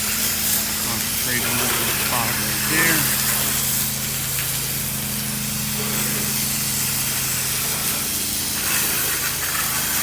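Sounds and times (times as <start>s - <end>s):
engine and pump humming: 0.0s - 10.0s
pressure washer water jet hissing: 0.0s - 10.0s.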